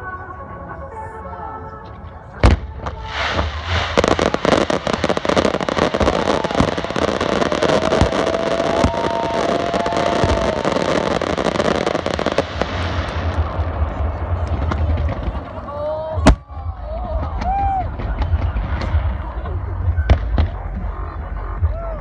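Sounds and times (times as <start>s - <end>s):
fireworks crackling and popping: 2.4s - 20.8s.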